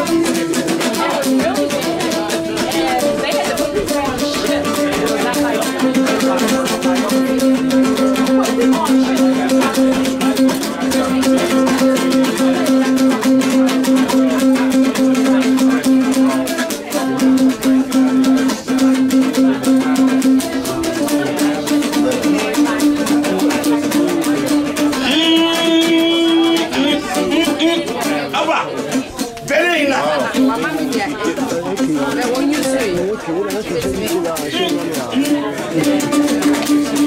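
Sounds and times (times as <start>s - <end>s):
plucked string instrument: 0.0s - 37.0s.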